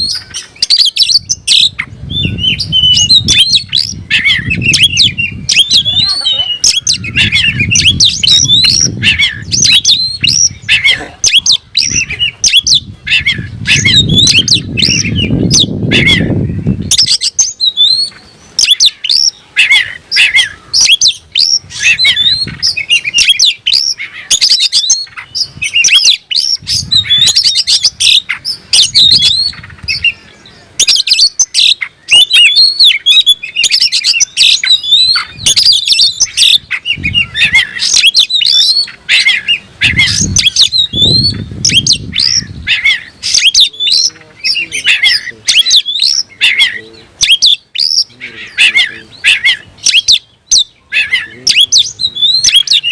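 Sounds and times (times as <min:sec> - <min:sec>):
bird singing: 0:00.0 - 0:52.9.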